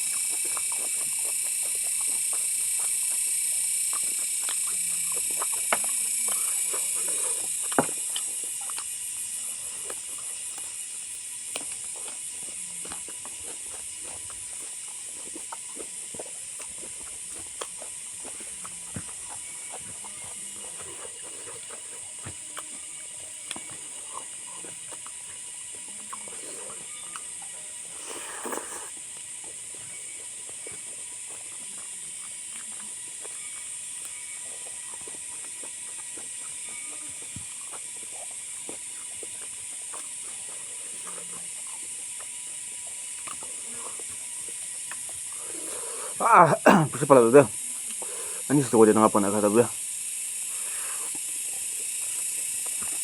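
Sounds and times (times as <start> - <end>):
person chewing and eating: 0.0 - 49.1, 49.8 - 53.0
background hiss: 0.0 - 53.0.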